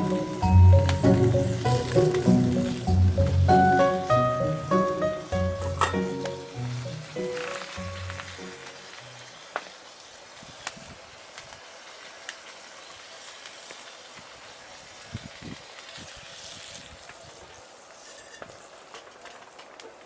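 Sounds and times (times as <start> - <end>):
food sizzling over fire: 0.0 - 20.0
wood fire crackling and popping: 0.0 - 20.0.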